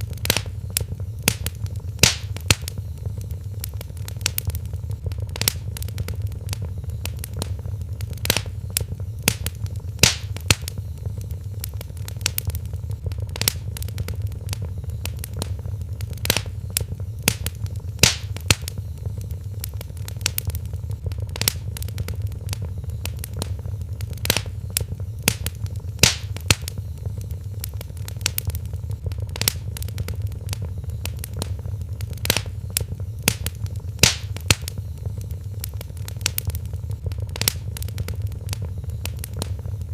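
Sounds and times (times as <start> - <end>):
loud pop from fire: 0.0 - 39.9
wood fire crackling: 0.0 - 39.9.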